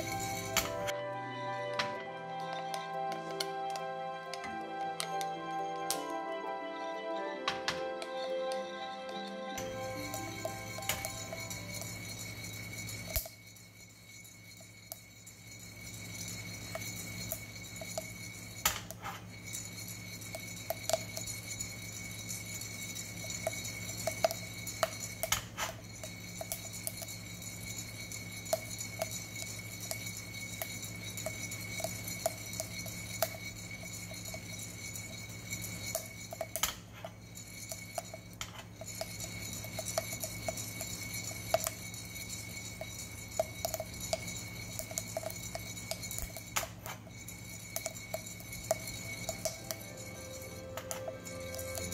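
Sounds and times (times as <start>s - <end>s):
coffee beans rattling in roaster: 0.0s - 0.9s, 9.6s - 51.9s.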